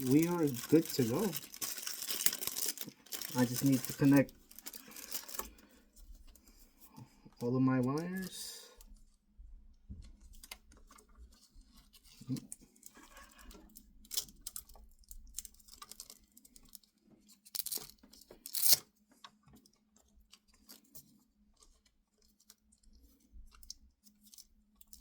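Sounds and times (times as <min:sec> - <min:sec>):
rustling cables: 0:00.0 - 0:09.2, 0:09.9 - 0:25.0.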